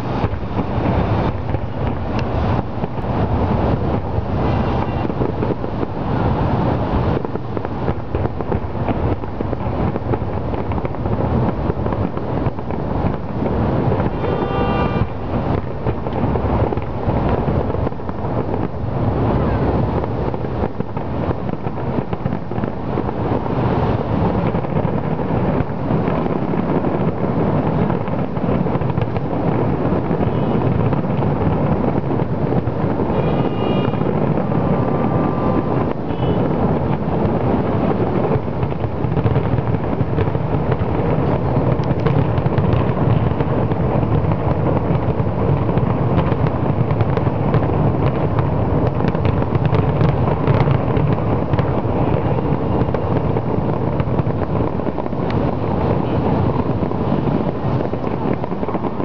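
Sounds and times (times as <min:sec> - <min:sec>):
fireworks booming and crackling: 0:00.0 - 0:59.0.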